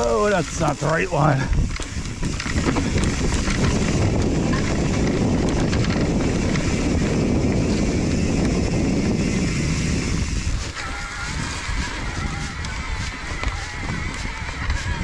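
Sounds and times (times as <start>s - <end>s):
electric bike rumbling: 0.0s - 15.0s
wind on microphone: 0.0s - 15.0s.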